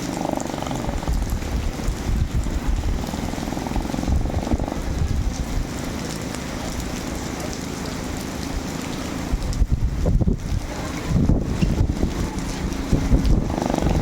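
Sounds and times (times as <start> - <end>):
wind buffeting microphone: 0.0 - 7.0, 8.0 - 14.0
boat engine running: 0.0 - 14.0.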